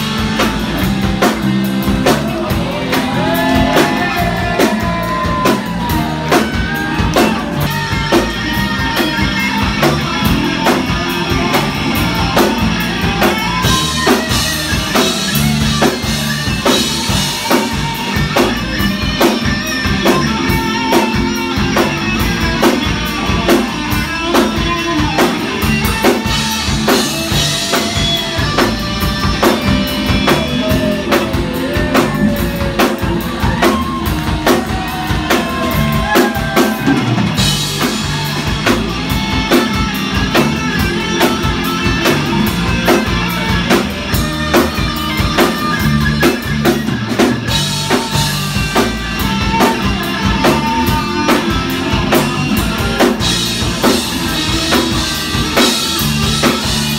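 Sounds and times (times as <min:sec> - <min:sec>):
drum kit beat: 0:00.0 - 0:56.9
electric guitar lead lines: 0:00.0 - 0:56.9.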